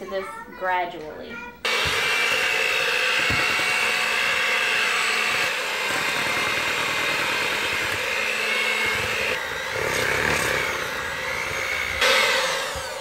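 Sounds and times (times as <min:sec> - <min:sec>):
electric hand mixer running: 0:01.6 - 0:13.0.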